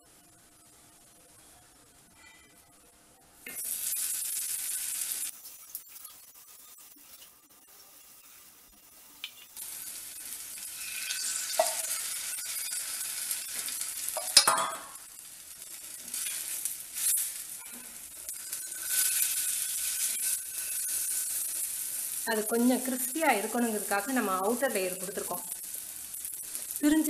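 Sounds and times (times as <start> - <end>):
food sizzling in oil: 3.4 - 27.0.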